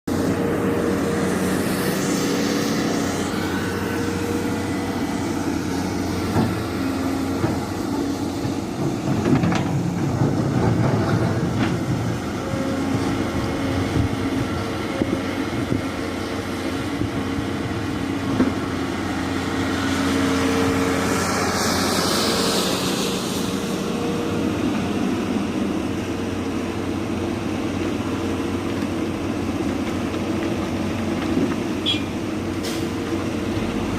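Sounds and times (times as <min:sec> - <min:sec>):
excavator diesel engine drone: 0:00.0 - 0:33.9.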